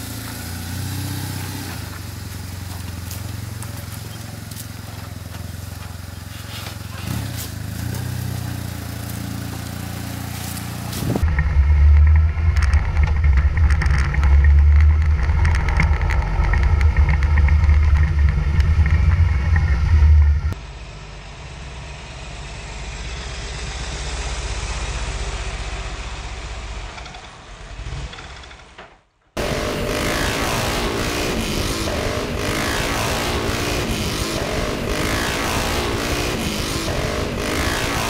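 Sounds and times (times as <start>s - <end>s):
motorcycle engine rumble: 0.0s - 38.0s.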